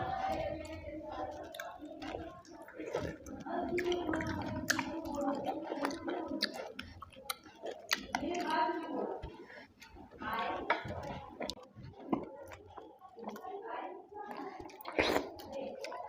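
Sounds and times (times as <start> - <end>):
person chewing food: 0.0 - 16.0
wet mouth clicks and smacks: 1.2 - 13.4, 14.3 - 16.0.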